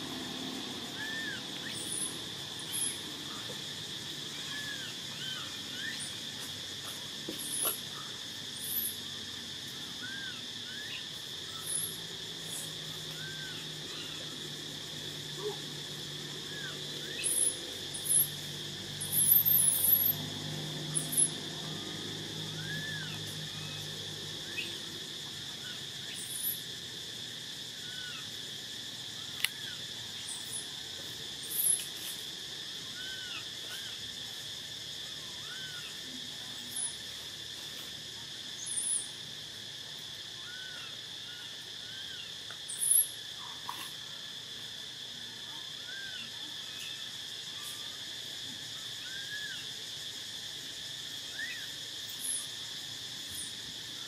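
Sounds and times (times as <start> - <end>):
insect chirps: 0.0 - 54.0
insects droning: 0.0 - 54.0.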